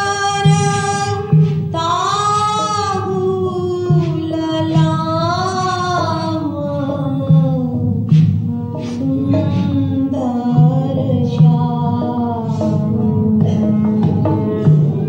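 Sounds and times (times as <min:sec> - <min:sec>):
woman singing: 0:00.0 - 0:14.8
drum strokes: 0:00.0 - 0:15.0
musical accompaniment: 0:00.0 - 0:15.0.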